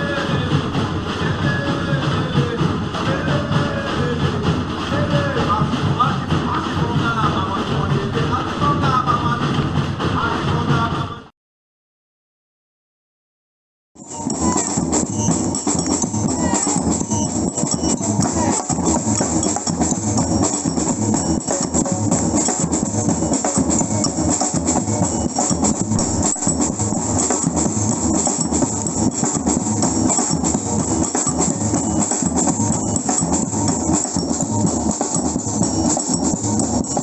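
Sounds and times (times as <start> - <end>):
samba drums and shakers: 0.0 - 11.2, 14.0 - 37.0.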